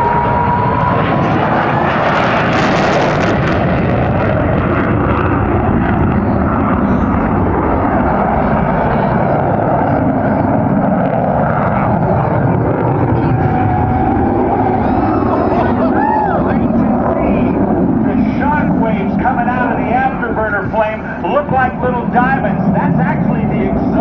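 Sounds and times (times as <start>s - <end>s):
loud jet engines at high power: 0.0s - 24.0s.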